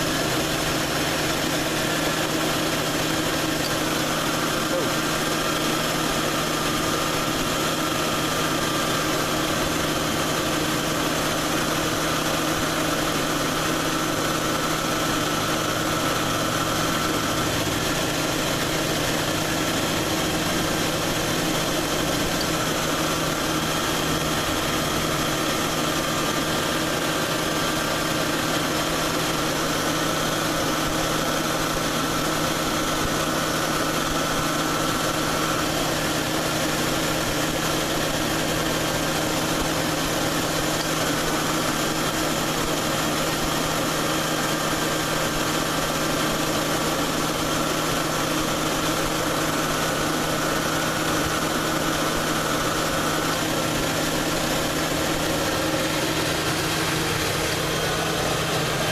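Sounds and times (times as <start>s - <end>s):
car engine idling: 0.0s - 43.0s, 44.7s - 58.9s
compressor whine: 0.0s - 58.9s.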